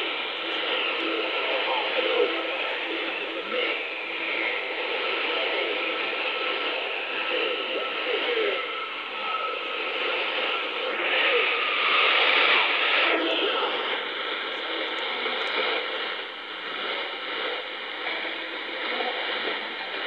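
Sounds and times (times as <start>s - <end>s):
faint steady radio whistle: 0.0s - 20.0s
radio hiss and static: 0.0s - 20.0s.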